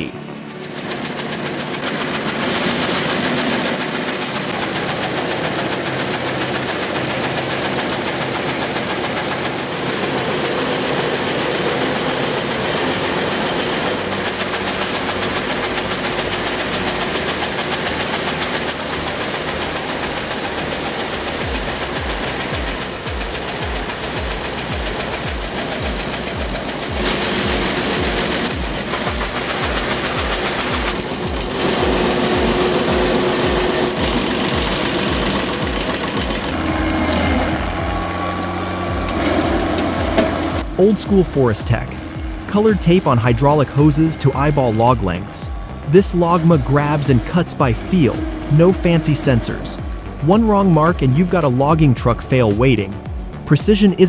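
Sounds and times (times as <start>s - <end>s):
machinery rhythmic clatter: 0.0s - 54.0s
steady engine hum: 0.0s - 54.0s.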